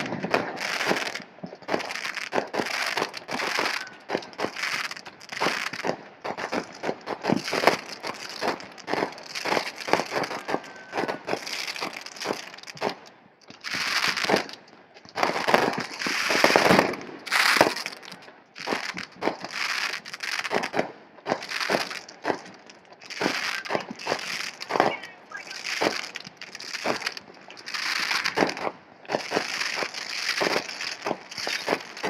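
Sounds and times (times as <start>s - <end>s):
fireworks popping and crackling: 0.0s - 32.0s.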